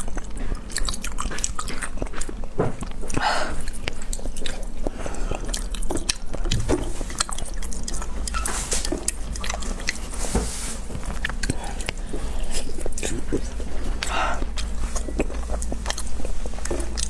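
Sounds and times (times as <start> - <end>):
mouth chewing wet clicks: 0.0 - 10.2, 10.8 - 17.0.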